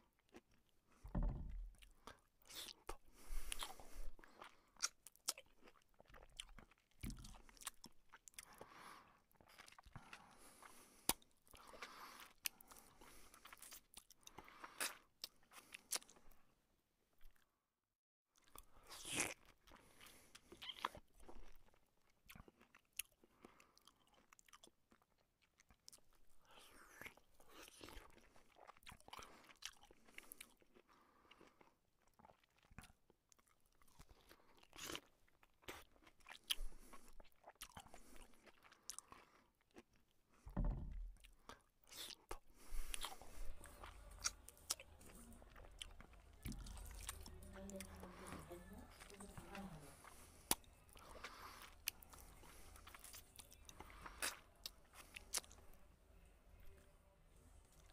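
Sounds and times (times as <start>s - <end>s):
person chewing and crunching food: 0.0s - 17.6s, 18.3s - 56.0s, 57.6s - 57.9s.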